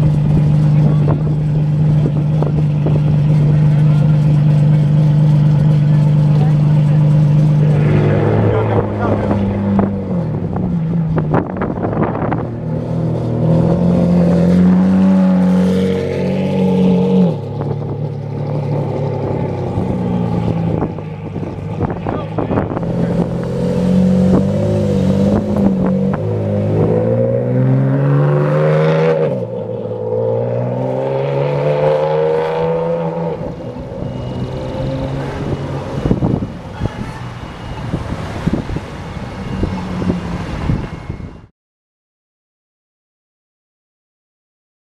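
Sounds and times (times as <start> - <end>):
sports car engine revving: 0.0 - 37.0.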